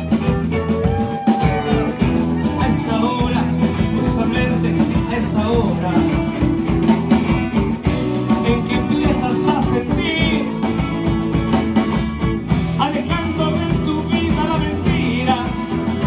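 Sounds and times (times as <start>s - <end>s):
amplified acoustic guitar: 0.0s - 16.0s
drum kit: 0.0s - 16.0s
electric bass: 0.0s - 16.0s
man singing: 0.0s - 16.0s.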